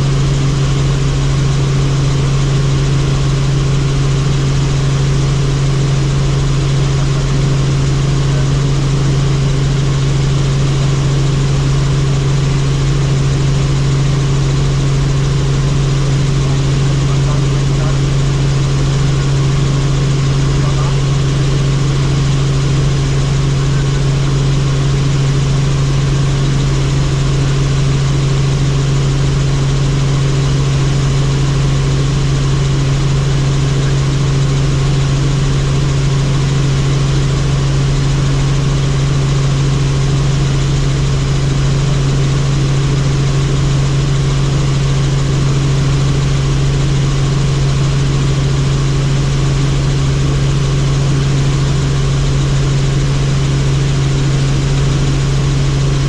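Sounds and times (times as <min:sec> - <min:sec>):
helicopter engine and rotors: 0:00.0 - 0:56.0.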